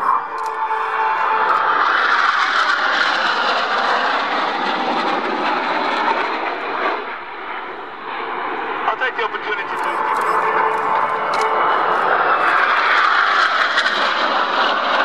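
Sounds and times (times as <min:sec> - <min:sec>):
jets flying overhead: 0:00.0 - 0:15.0.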